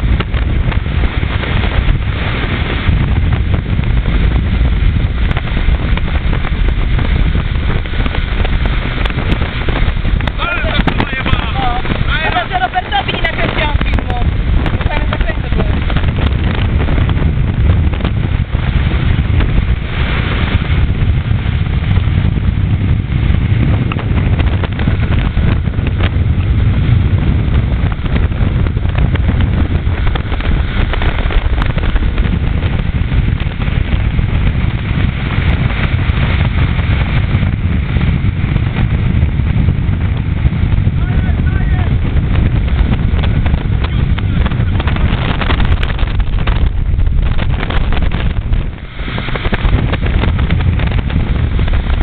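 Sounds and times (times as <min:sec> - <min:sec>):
motorboat engine: 0:00.0 - 0:52.0
wind buffeting microphone: 0:00.0 - 0:52.0.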